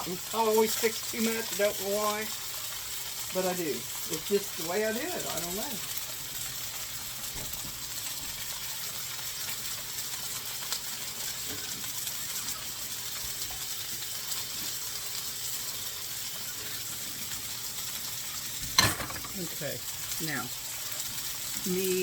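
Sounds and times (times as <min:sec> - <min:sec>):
food sizzling on a grill: 0:00.0 - 0:22.0.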